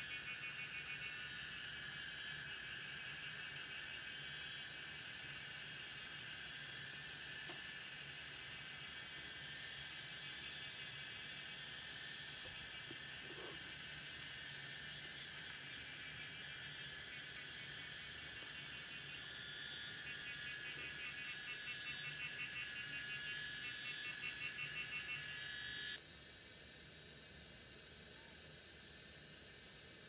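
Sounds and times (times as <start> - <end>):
shrill insect chorus: 0.0 - 30.0.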